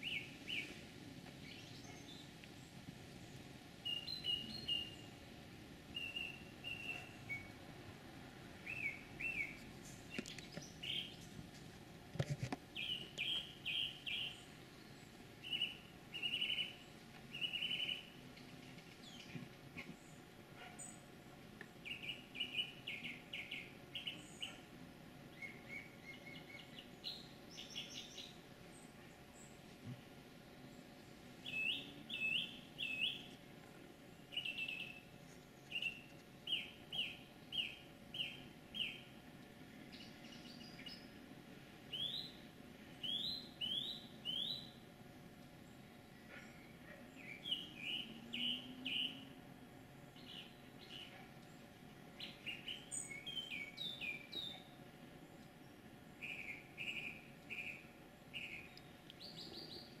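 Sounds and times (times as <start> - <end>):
songbird singing repeated notes: 0.0 - 7.7, 8.6 - 11.4, 12.7 - 29.6, 30.5 - 33.4, 34.0 - 39.2, 39.9 - 41.2, 41.8 - 44.9, 45.5 - 49.4, 50.0 - 60.0.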